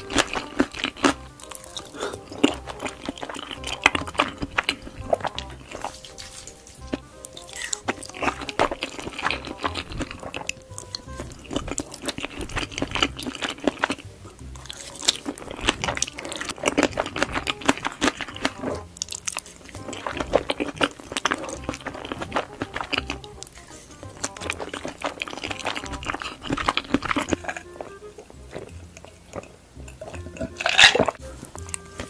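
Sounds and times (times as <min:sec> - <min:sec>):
background music: 0:00.0 - 0:32.0
chewing with wet mouth sounds: 0:00.0 - 0:32.0
crisp bites: 0:00.0 - 0:32.0.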